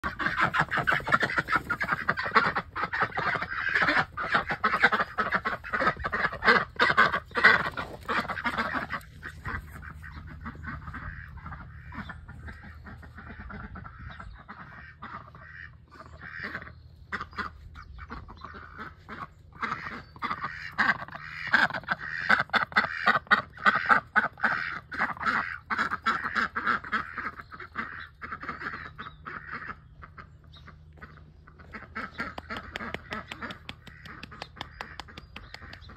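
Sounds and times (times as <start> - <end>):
ducks quacking: 0.0 - 35.9.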